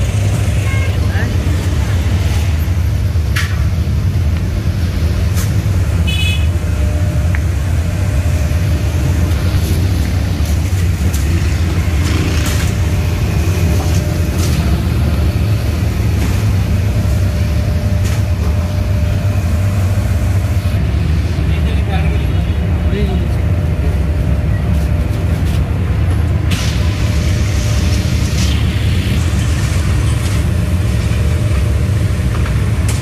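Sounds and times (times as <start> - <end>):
street traffic and machinery rumble: 0.0 - 33.0.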